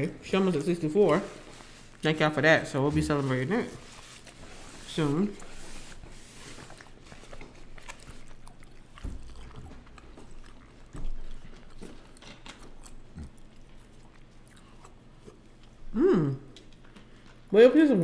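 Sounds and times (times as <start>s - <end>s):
close chewing and mouth sounds: 0.0s - 17.6s.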